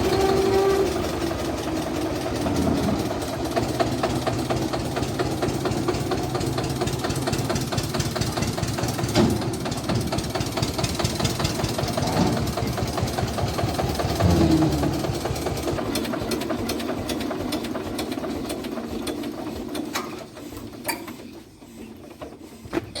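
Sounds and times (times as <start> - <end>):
tractor diesel engine knocking: 0.0 - 23.0.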